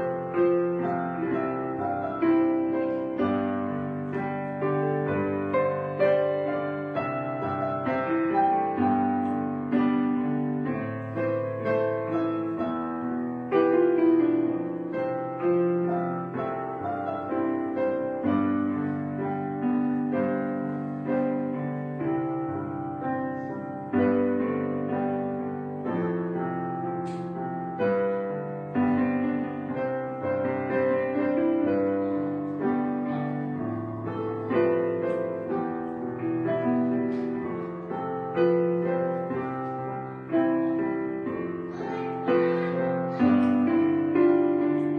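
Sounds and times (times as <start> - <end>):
piano instrumental music: 0.0 - 44.9.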